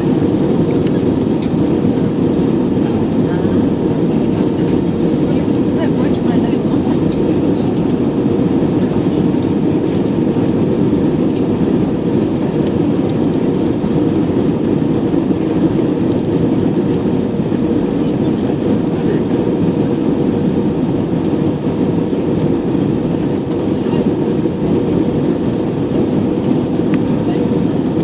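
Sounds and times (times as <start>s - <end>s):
airplane cabin airflow and engine: 0.0s - 28.0s.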